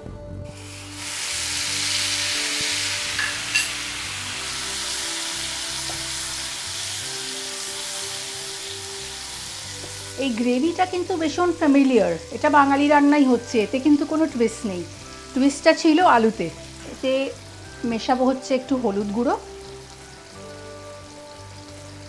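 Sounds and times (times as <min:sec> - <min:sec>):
paste sizzling in hot oil: 0:00.5 - 0:22.0.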